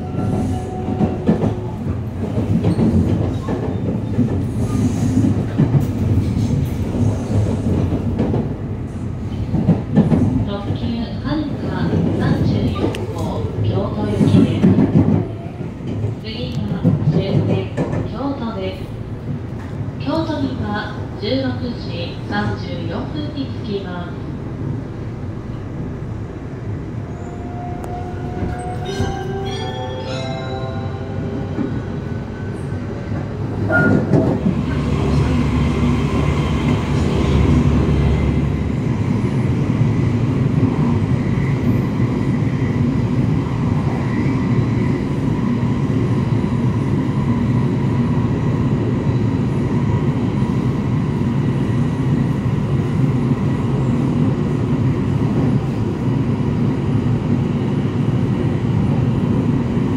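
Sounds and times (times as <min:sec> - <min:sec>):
rail running noise: 0:00.0 - 0:59.9
train rush and rumble: 0:00.0 - 0:59.9.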